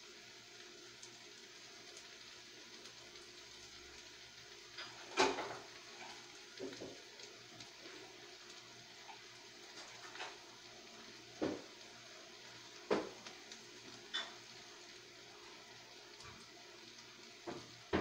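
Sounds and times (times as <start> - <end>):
onion and garlic frying: 0.0 - 18.0.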